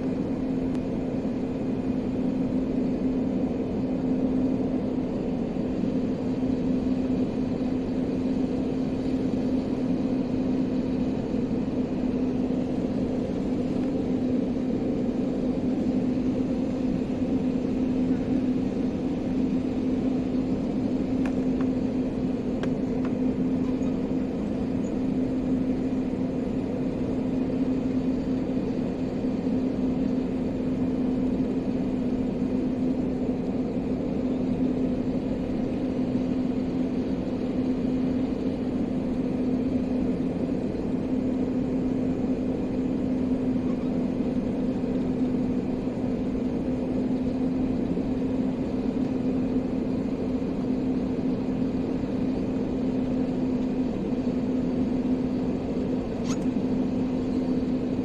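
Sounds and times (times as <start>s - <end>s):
airliner cabin engine drone: 0.0s - 58.0s
constant low hum: 0.0s - 58.0s.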